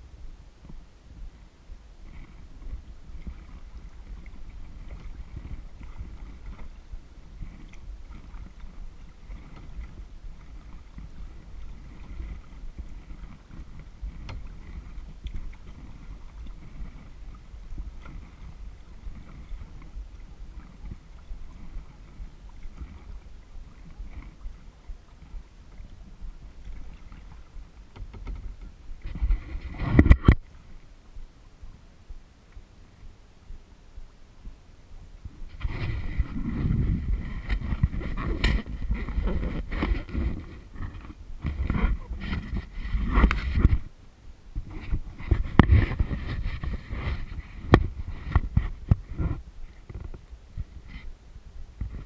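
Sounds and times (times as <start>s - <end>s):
paddle strokes: 0.0s - 52.0s
steady low rumble: 0.0s - 52.0s
water splashing against hull: 0.0s - 52.0s.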